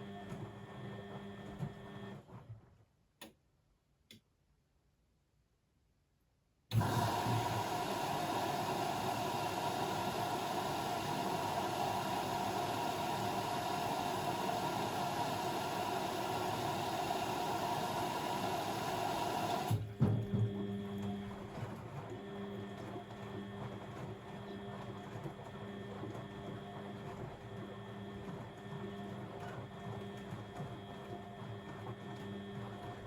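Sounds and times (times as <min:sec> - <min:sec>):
washing machine hum: 0:00.0 - 0:02.9, 0:06.7 - 0:33.0.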